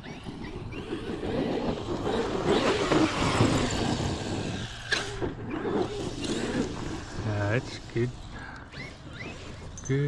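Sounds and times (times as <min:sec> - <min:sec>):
rc truck rumbling over dirt: 0:00.0 - 0:10.0.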